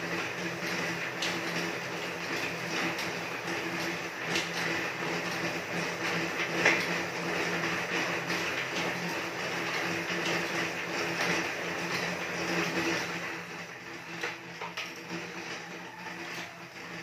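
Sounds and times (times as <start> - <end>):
cross-trainer flywheel whirring: 0.0 - 17.0.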